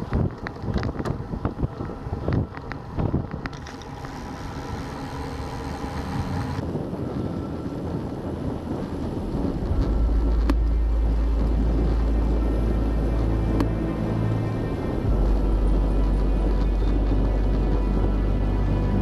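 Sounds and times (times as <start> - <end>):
deep rumble: 0.0 - 19.0
road noise: 0.0 - 19.0
wind buffeting microphone: 0.0 - 19.0.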